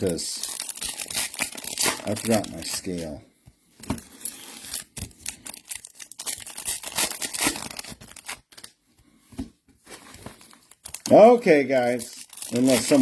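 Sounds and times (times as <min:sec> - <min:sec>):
foil wrappers tearing and crinkling: 0:00.0 - 0:03.0, 0:04.1 - 0:08.7, 0:09.9 - 0:13.0.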